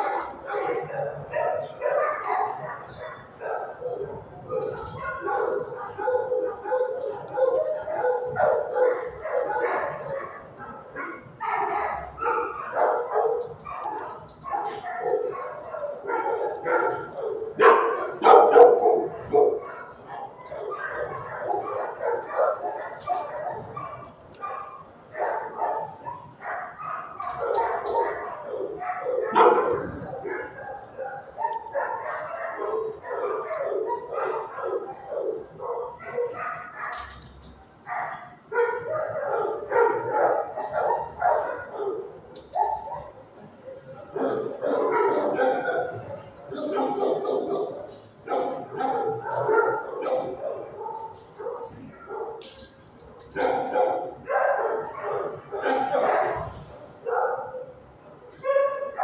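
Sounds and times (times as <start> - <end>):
dogs yipping and whimpering: 0.0 - 37.2, 37.8 - 57.7
dogs barking: 0.0 - 59.0.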